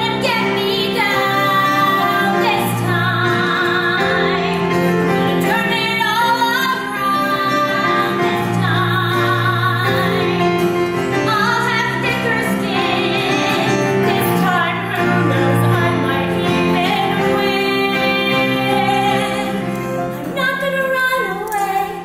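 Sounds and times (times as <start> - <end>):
keyboard: 0.0 - 22.0
woman singing: 0.0 - 22.0.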